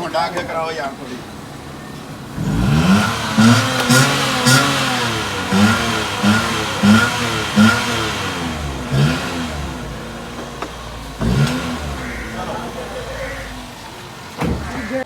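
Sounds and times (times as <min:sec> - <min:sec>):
small petrol engine revving: 0:01.3 - 0:15.0.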